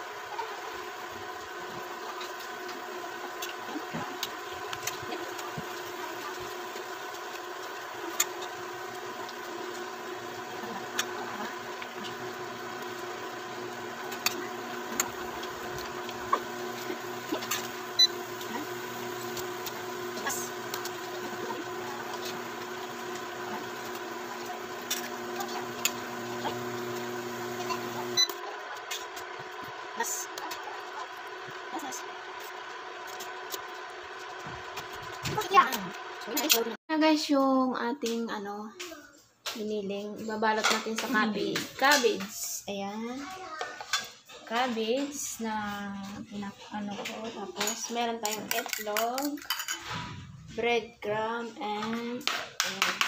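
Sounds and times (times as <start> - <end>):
induction cooktop hum and whine: 0.0 - 37.3, 39.7 - 53.0.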